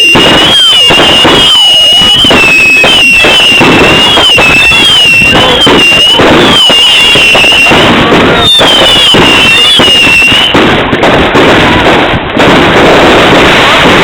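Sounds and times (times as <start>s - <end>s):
fireworks crackling bangs: 0.0s - 14.0s
whistling fireworks shrieks: 0.0s - 14.0s.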